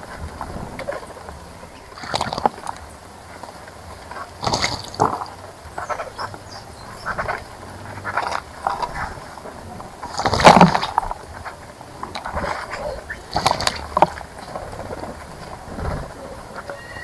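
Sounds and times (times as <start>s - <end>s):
bird wings fluttering: 0.0s - 6.4s, 7.0s - 9.4s, 10.0s - 17.0s
water splashing: 0.0s - 17.0s.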